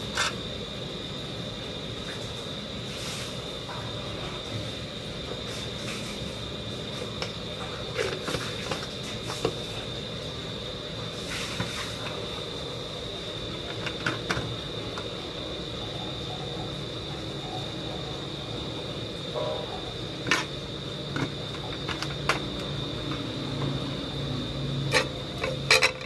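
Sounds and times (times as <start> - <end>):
background hum: 0.0 - 26.0
faint high whine: 0.0 - 26.0.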